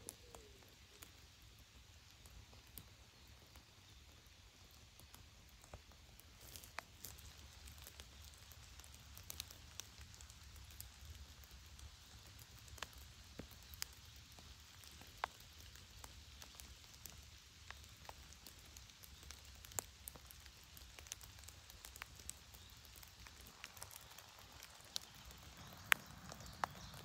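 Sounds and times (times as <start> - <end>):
faint rain hiss: 0.0 - 27.0
raindrops ticking on leaves: 0.0 - 27.0.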